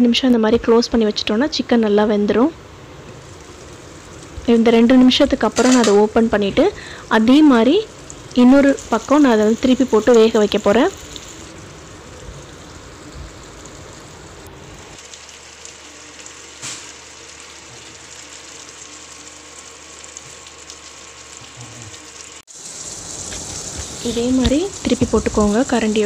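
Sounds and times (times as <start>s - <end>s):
chicken frying in oil: 3.0s - 26.0s.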